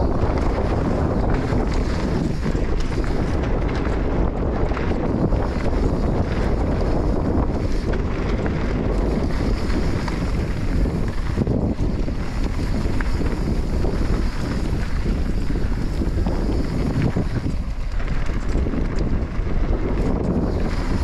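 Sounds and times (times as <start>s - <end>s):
motorcycle running: 0.0s - 21.0s
wind rush on microphone: 0.0s - 21.0s.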